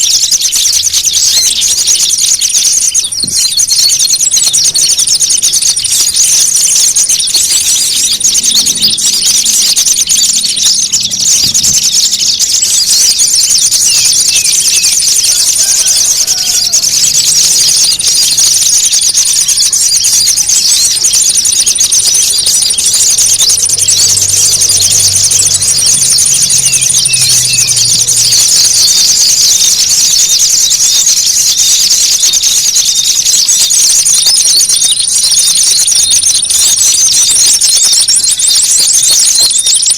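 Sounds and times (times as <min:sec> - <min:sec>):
small birds chattering and trilling: 0:00.0 - 0:39.9.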